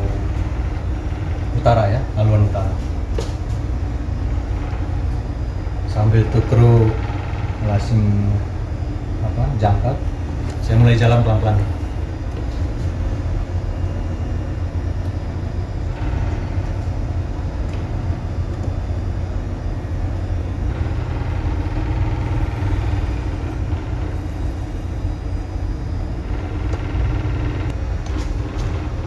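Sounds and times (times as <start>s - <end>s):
ship engines low rumble: 0.0s - 29.0s.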